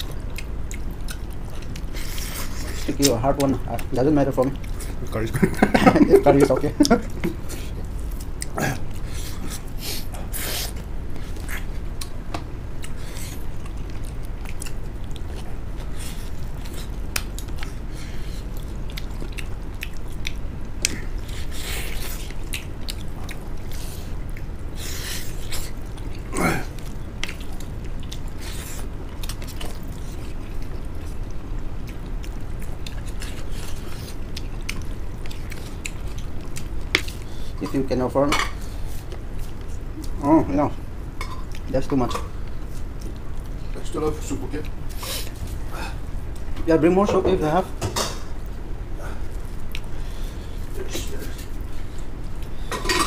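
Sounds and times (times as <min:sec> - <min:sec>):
people chewing food: 0:00.0 - 0:53.0.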